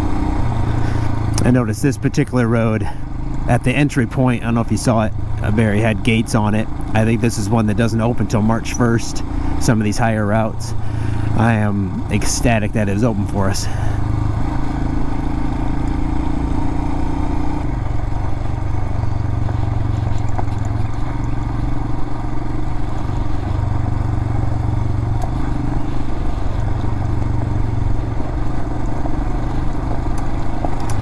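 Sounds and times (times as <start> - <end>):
motorcycle engine running: 0.0 - 31.0
stones ticking under tyres: 0.1 - 31.0.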